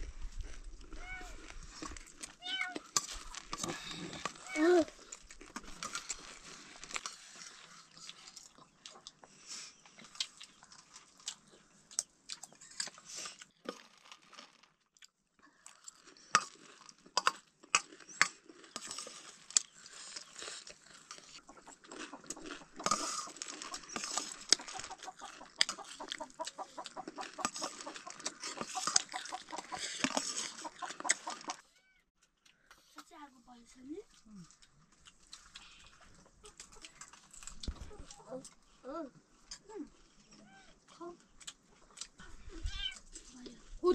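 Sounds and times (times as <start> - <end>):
chewing crunchy snacks: 0.0 - 33.1, 33.7 - 43.9.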